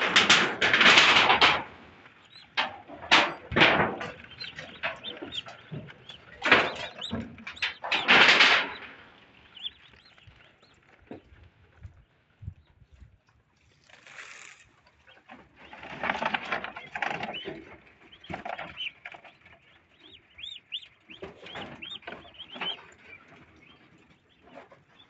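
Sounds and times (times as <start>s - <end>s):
ducks calling: 0.2s - 11.3s, 15.0s - 25.0s.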